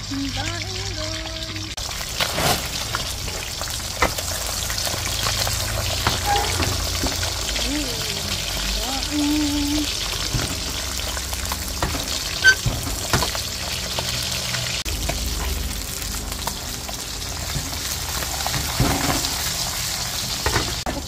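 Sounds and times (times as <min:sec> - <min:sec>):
fish frying in hot oil: 0:00.0 - 0:21.0.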